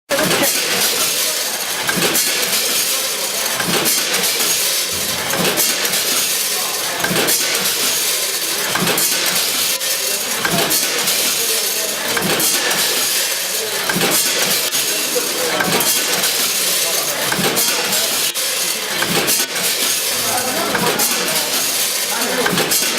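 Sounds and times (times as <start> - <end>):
packaging machine clatter: 0.1 - 22.9.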